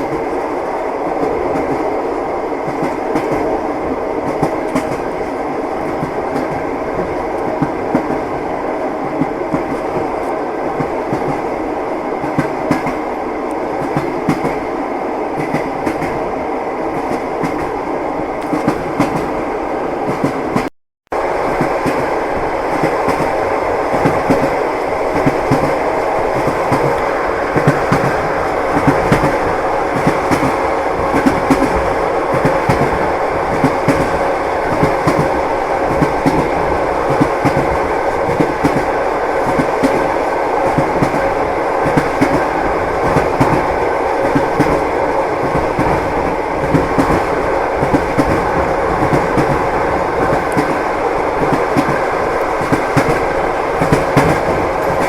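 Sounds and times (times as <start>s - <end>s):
train rolling rumble: 0.0s - 55.0s
train wheels clicking on rail joints: 2.6s - 3.6s, 4.2s - 14.7s, 15.3s - 16.3s, 16.9s - 19.4s, 21.4s - 55.0s.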